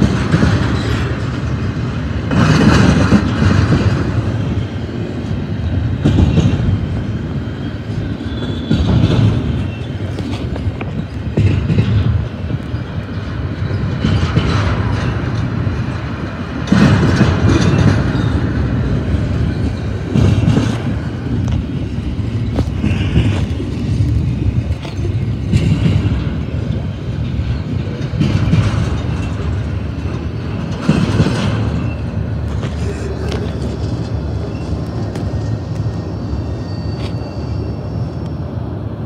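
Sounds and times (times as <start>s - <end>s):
freight train wheels clattering: 0.0s - 39.0s.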